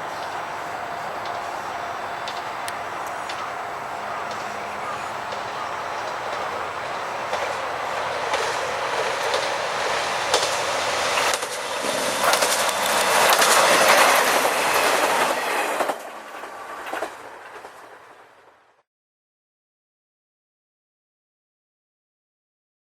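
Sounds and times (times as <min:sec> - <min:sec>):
loud rushing noise: 0:00.0 - 0:18.4.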